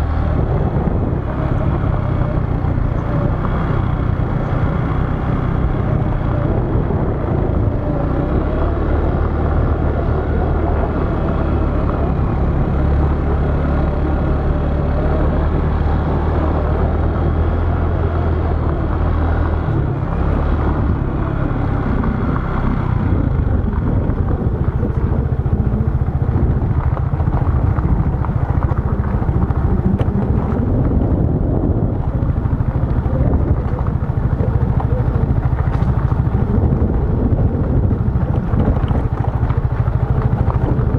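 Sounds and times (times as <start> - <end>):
motorbike engine running: 0.0 - 40.9.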